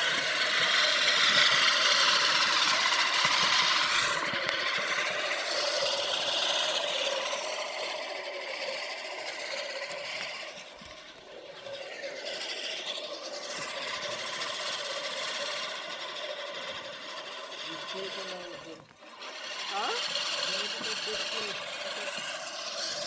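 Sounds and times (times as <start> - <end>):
lawn mower cutting grass: 0.0 - 23.0.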